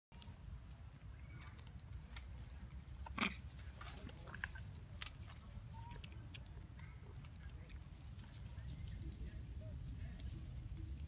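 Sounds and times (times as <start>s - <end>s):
monkey chewing plant stalk: 0.2s - 11.0s.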